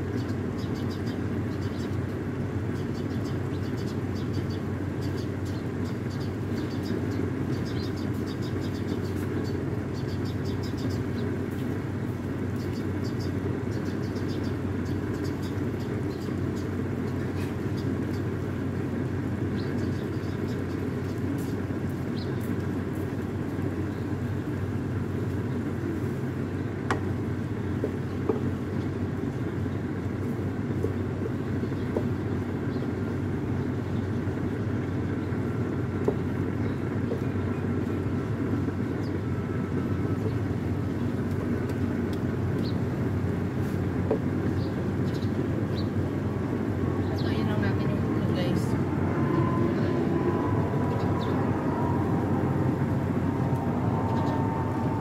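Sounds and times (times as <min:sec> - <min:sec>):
low rumble with hum: 0:00.0 - 0:55.0.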